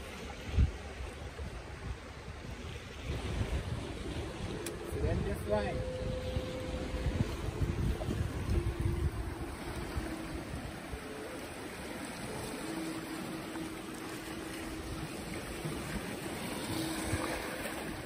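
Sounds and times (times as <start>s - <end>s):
waves lapping against rocks: 0.0s - 18.0s.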